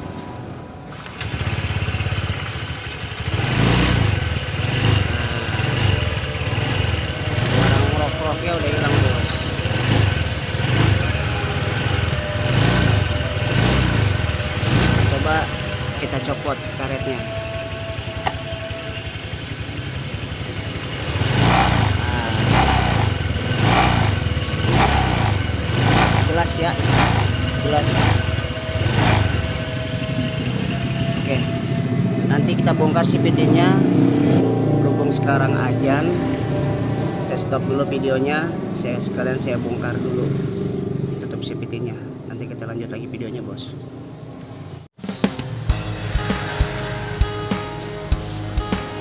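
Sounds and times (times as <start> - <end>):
scooter engine revving: 0.9 - 42.3.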